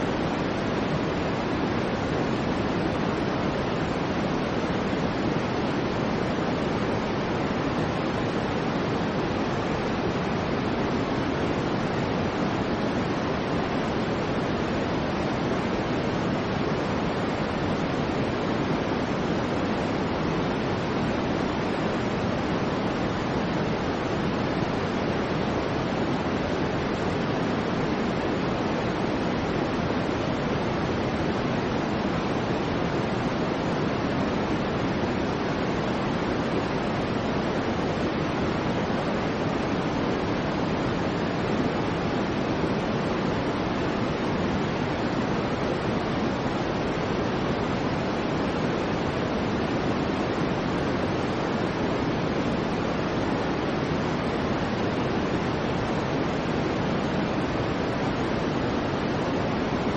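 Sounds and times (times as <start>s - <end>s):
soft steady white noise hiss: 0.0s - 59.9s.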